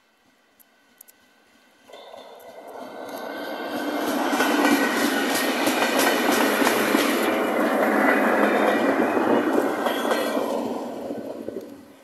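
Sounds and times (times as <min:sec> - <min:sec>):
wheels rumbling on rails: 0:00.2 - 0:12.0
wheels clacking over rail joints: 0:01.9 - 0:12.0.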